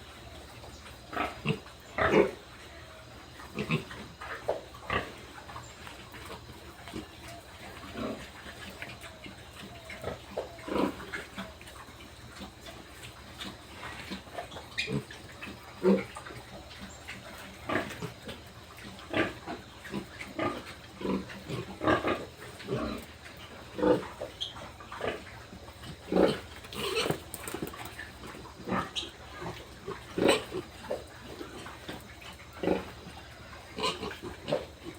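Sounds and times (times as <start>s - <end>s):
pigs grunting: 0.1s - 34.9s.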